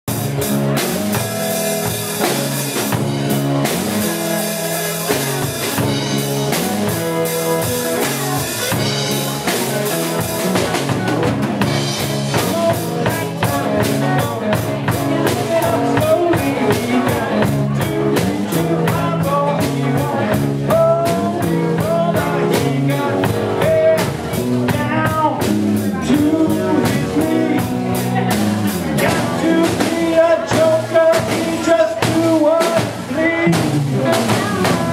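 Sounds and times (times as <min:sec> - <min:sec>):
drum kit: 0:00.0 - 0:34.9
electric guitar: 0:00.1 - 0:34.9
strummed acoustic guitar: 0:00.1 - 0:34.9.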